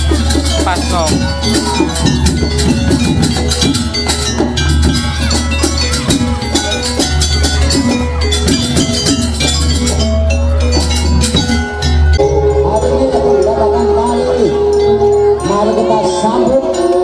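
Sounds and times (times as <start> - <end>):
drums playing fast rhythm: 0.0 - 17.0
struck metal gamelan percussion: 0.0 - 17.0.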